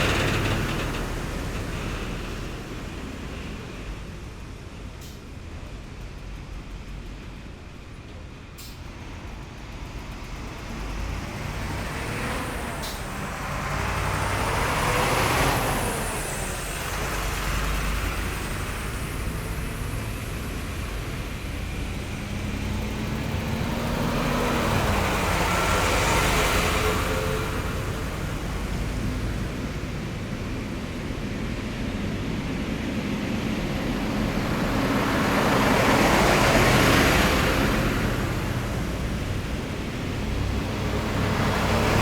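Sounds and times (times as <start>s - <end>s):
heavy military vehicles driving past: 0.0s - 42.0s.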